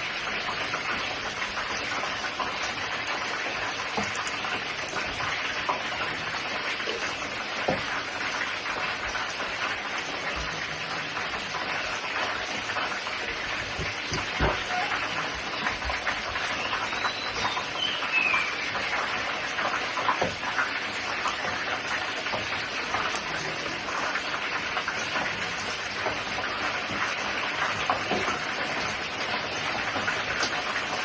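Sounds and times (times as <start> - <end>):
sausages sizzling in oil: 0.0 - 31.0.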